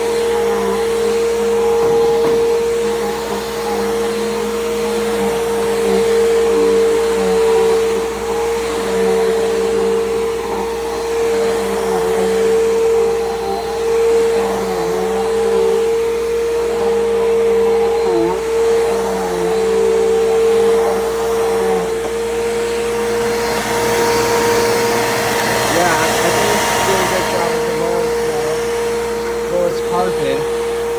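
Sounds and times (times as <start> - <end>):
vacuum cleaner motor whine: 0.0 - 30.9.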